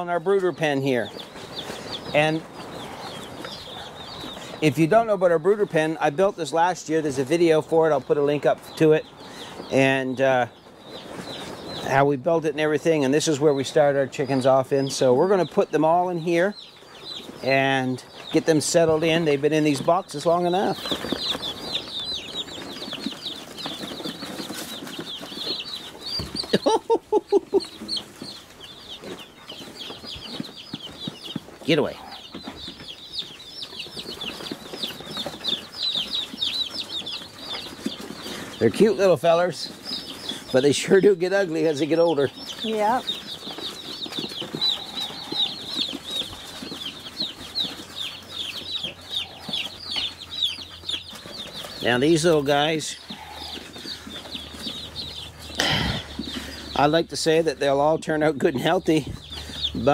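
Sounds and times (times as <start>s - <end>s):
chicks cheeping: 0.0s - 59.9s.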